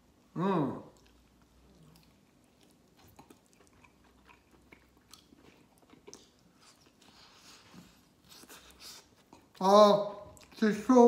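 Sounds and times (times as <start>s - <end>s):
man chewing food: 0.0s - 10.9s.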